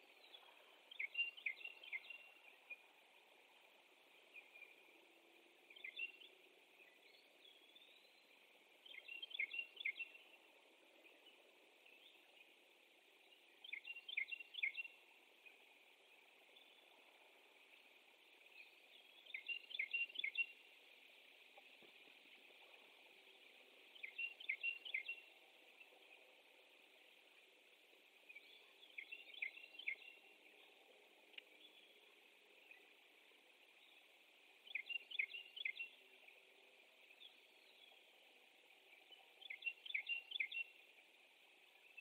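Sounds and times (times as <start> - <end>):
faint bird song: 0.0 - 42.0
steady high hiss: 0.0 - 42.0.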